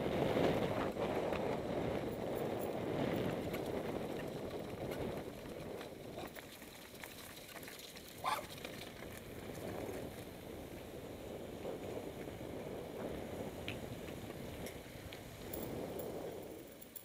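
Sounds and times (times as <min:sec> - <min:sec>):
bike tyres rattling over gravel: 0:00.0 - 0:17.0
bike clicks: 0:00.3 - 0:10.9, 0:11.6 - 0:17.0.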